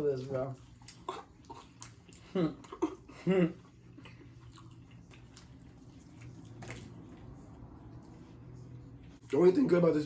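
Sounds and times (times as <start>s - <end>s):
person chewing food: 0.2s - 9.4s.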